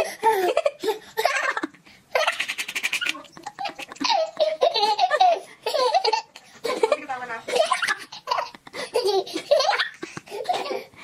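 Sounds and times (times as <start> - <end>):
baby laughing: 0.2 - 10.9.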